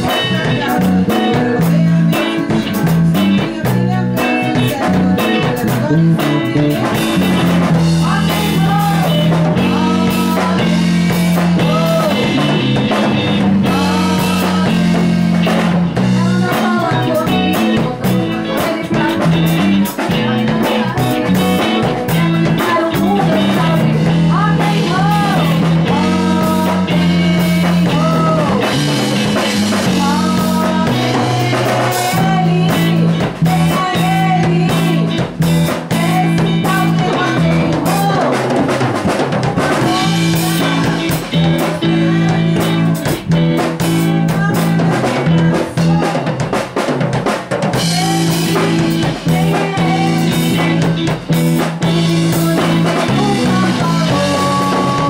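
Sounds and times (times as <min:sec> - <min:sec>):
women singing: 0:00.0 - 0:46.6, 0:47.7 - 0:55.0
drum kit: 0:00.0 - 0:55.0
electric guitar: 0:00.0 - 0:55.0.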